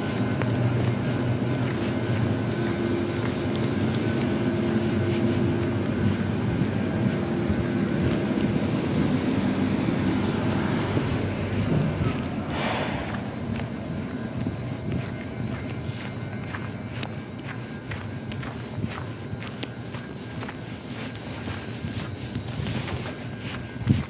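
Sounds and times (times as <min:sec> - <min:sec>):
electric trains humming: 0:00.0 - 0:24.0
low equipment tones: 0:00.0 - 0:24.0.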